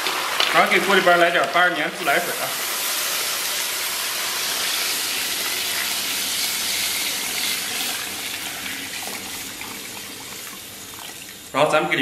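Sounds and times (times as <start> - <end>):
water pouring into a wok: 0.0 - 11.6.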